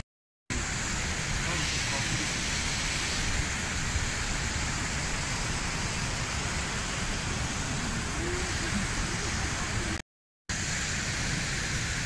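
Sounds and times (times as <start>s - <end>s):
stream flowing over rocks: 0.5s - 12.0s.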